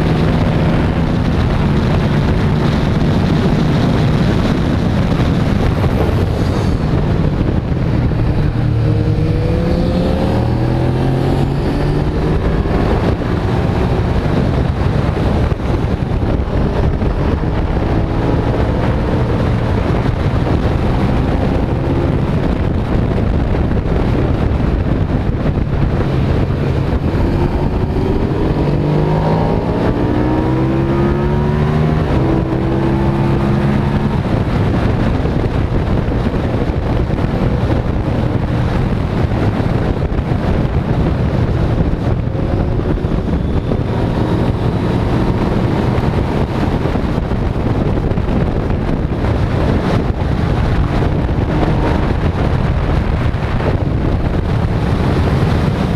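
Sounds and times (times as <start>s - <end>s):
motorcycle engine accelerating: 0.0s - 55.9s
wind rushing over microphone: 0.0s - 55.9s.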